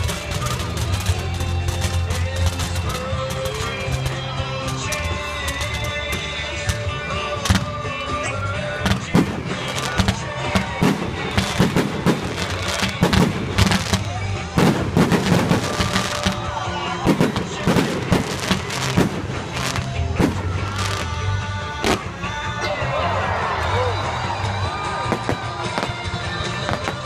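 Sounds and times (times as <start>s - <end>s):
fireworks bangs and pops: 0.0s - 22.4s, 24.3s - 27.0s
music playing: 0.0s - 27.0s.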